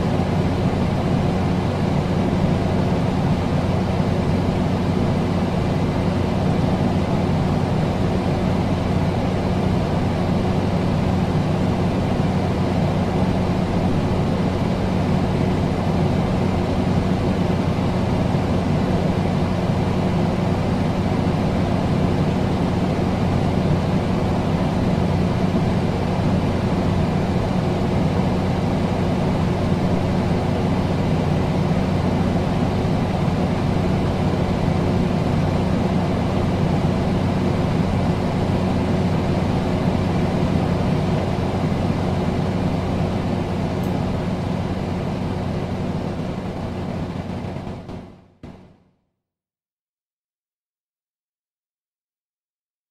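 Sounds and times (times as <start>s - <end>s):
air conditioner running: 0.0s - 48.7s.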